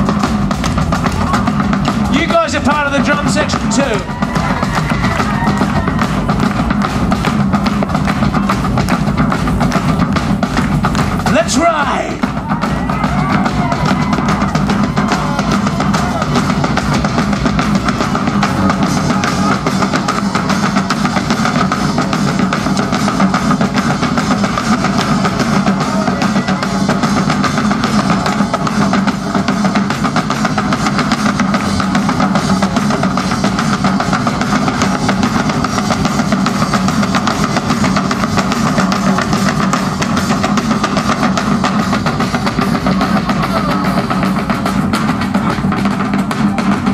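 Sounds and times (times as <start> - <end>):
massed drums: 0.0 - 46.9.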